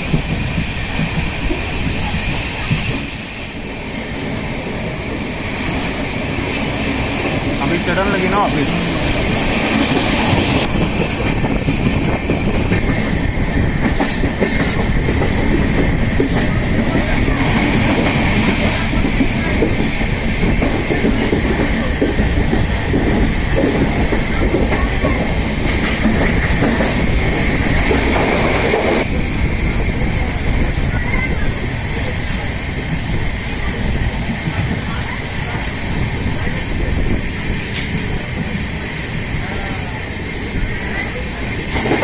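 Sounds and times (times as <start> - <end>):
train wheels rumbling on track: 0.0 - 42.0.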